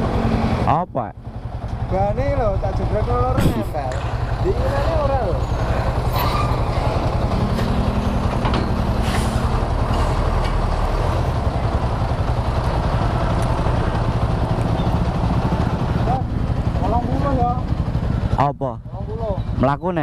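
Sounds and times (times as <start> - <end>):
two-stroke motorcycle engine running: 0.0 - 8.8, 11.3 - 19.8.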